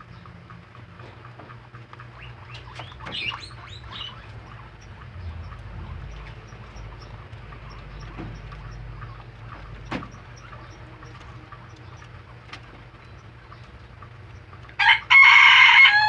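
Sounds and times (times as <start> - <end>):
rabbits munching vegetables: 0.0 - 16.0.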